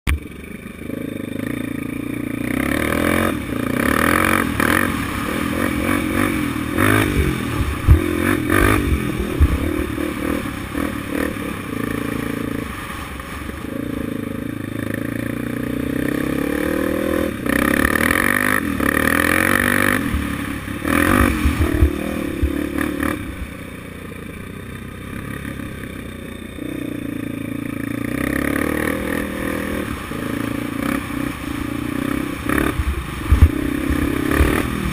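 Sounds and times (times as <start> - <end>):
quad engine revving: 0.1 - 34.9.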